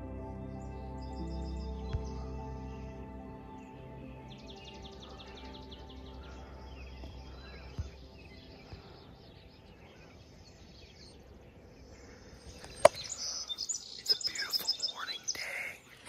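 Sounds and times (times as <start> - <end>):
birds chirping: 0.0 - 16.0
bird trill: 0.5 - 15.7.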